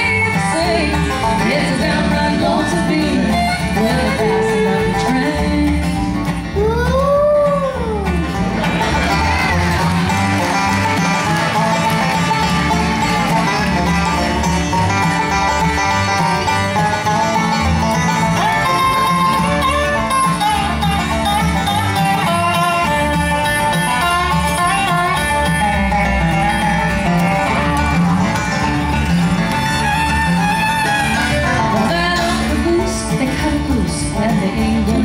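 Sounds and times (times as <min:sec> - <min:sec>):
banjo lead: 0:00.0 - 0:35.0
bluegrass band playing: 0:00.0 - 0:35.0.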